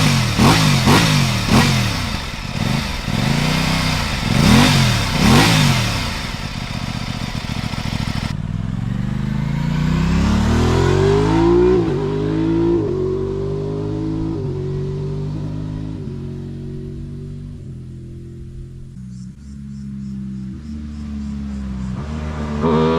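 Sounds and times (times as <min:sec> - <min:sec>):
motorcycle engine accelerating: 0:00.0 - 0:22.9.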